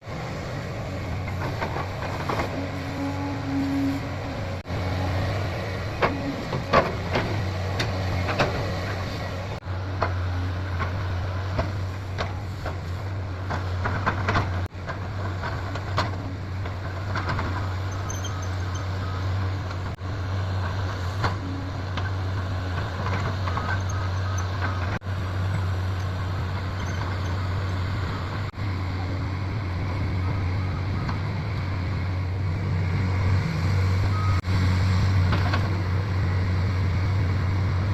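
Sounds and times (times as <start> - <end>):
excavator engine droning: 0.0 - 37.9.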